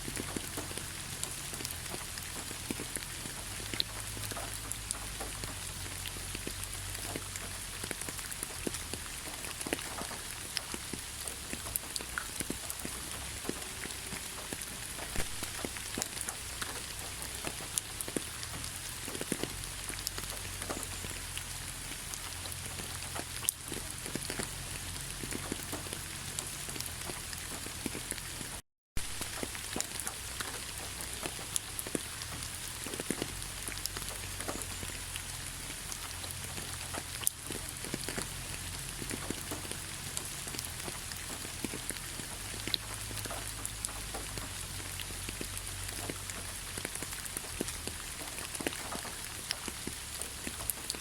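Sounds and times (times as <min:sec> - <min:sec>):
heavy rain on hard surface: 0:00.0 - 0:51.0.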